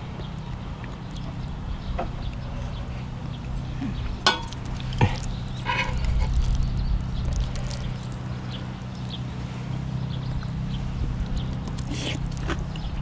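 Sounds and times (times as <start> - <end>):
steady low hum: 0.0 - 13.0
chewing: 0.2 - 13.0.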